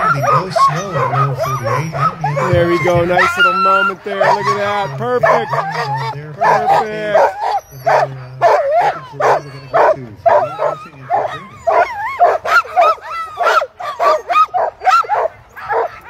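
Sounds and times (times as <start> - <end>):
sled dogs barking and yipping: 0.0 - 16.0.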